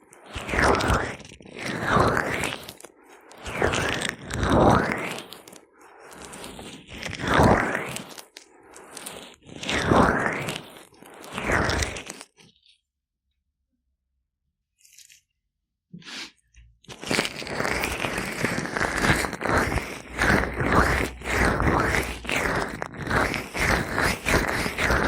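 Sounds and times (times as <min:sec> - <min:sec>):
gloved hands rubbing microphone: 0:00.2 - 0:12.5, 0:16.0 - 0:25.0.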